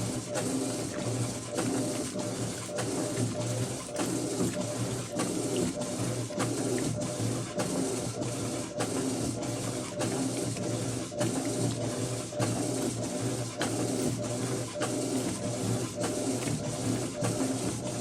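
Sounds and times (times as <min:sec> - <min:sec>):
washing machine motor humming: 0:00.0 - 0:18.0.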